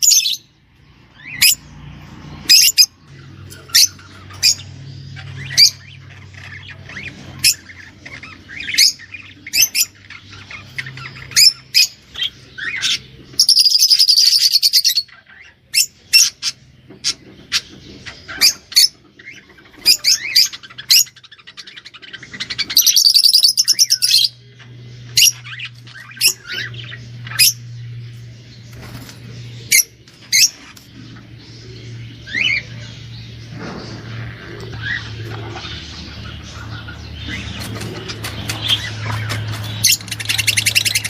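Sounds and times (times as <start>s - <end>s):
songbird chirping: 0.0s - 41.0s
bird trills: 2.5s - 28.0s, 28.7s - 41.0s.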